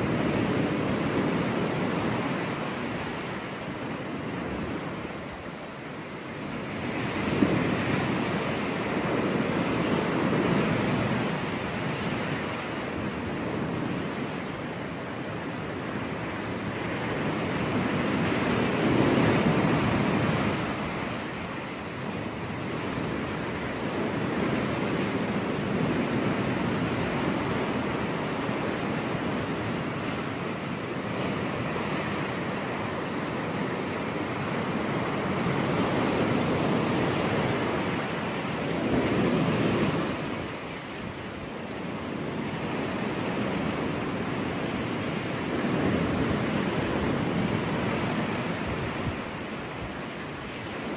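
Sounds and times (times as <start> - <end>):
surf breaking on beach: 6.4 - 50.9.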